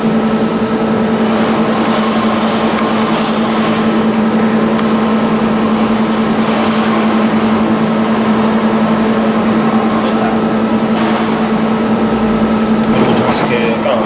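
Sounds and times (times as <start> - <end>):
constant hum: 0.0 - 14.0
welding arc hissing: 0.0 - 14.0.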